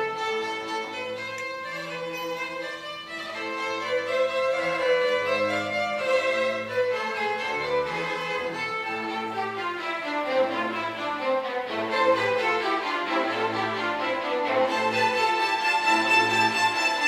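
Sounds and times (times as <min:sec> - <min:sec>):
violin melody: 0:00.0 - 0:17.0.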